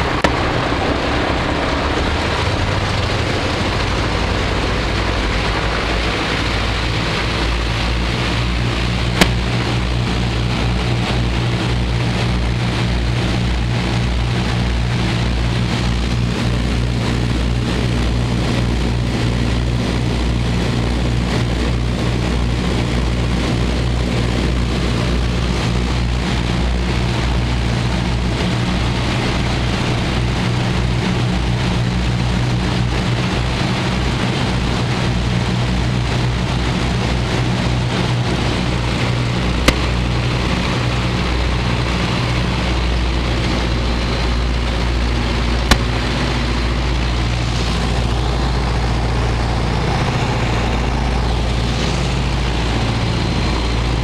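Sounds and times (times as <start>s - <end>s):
aircraft engines droning: 0.0s - 54.0s.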